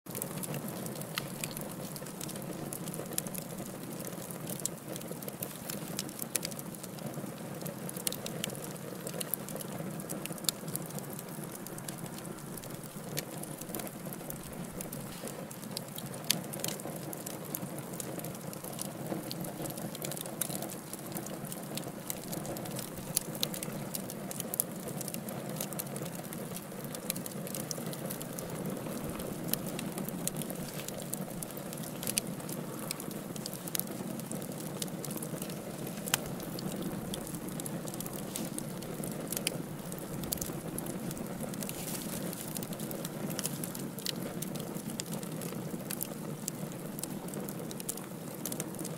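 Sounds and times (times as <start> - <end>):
wood fire crackling and popping: 0.1 - 48.9.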